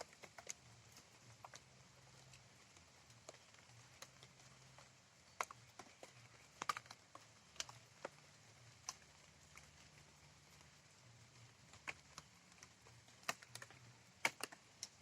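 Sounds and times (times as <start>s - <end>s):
low steady hiss: 0.0s - 15.0s
raindrops tapping: 0.0s - 15.0s.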